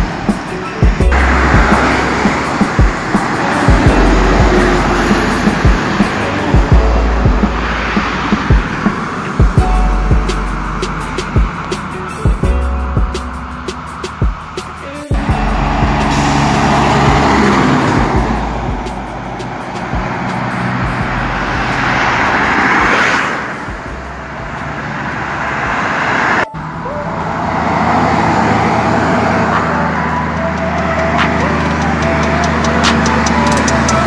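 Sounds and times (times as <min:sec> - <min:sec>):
highway traffic passing: 0:00.0 - 0:34.0
truck diesel engine: 0:00.0 - 0:34.0.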